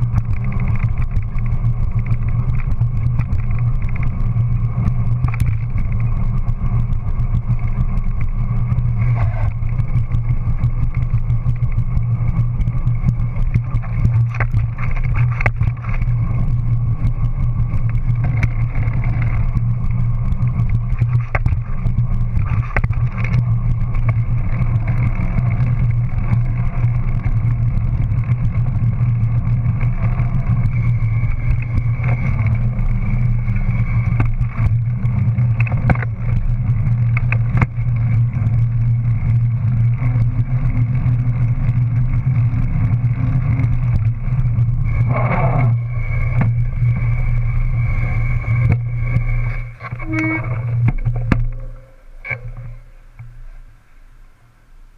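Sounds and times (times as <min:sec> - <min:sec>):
clicks and knocks from bumps: 0:00.0 - 0:53.4
bike rolling rumble on concrete: 0:00.0 - 0:54.9.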